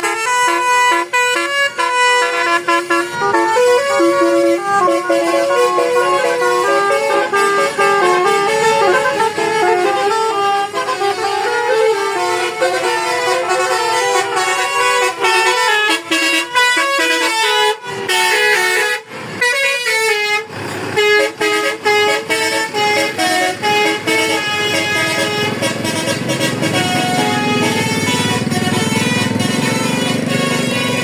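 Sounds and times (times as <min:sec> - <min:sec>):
musical bus horn tune: 0:00.0 - 0:31.0.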